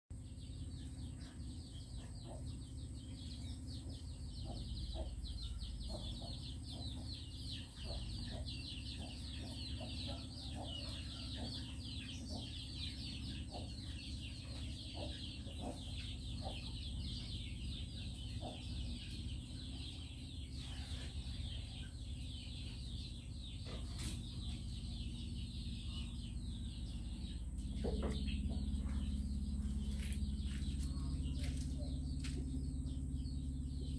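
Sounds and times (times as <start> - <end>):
steady low hum: 0.1 - 33.9
chickens clucking: 0.2 - 33.9.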